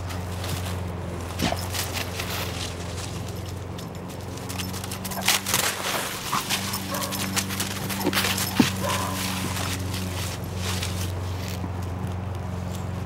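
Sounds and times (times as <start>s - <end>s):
dry leaves crunching underfoot: 0.0s - 13.0s
steady low hum: 0.0s - 13.0s.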